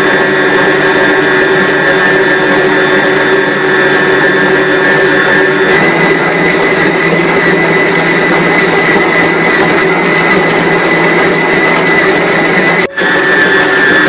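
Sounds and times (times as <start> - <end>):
stand mixer motor whining: 0.0 - 14.0.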